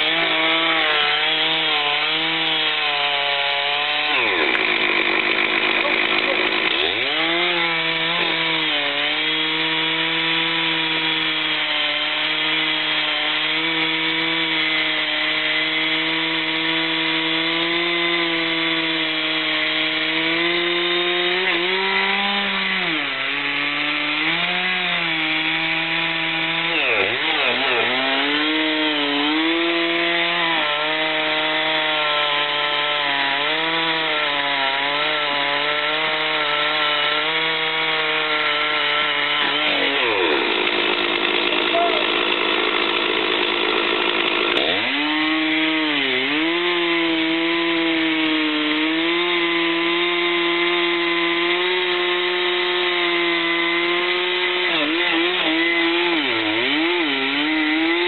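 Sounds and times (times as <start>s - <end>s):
chainsaw cutting tree: 0.0s - 58.0s.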